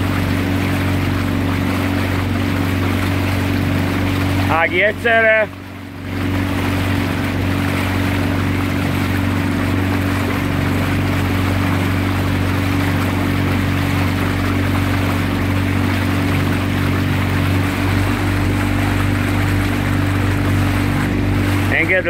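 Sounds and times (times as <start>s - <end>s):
outboard motor running: 0.0s - 22.0s
rushing water and wind: 0.0s - 22.0s.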